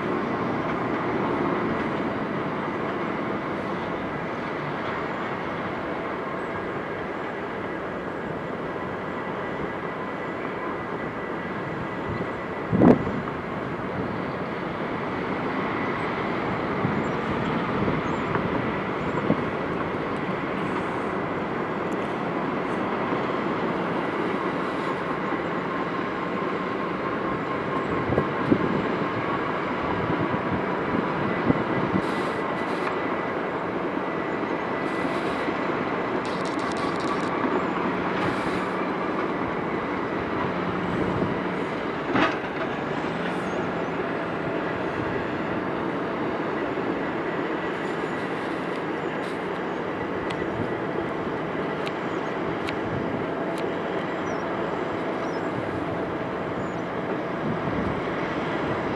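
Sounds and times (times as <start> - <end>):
excavator machinery drone: 0.0 - 58.9
faint steady whine: 0.0 - 58.9.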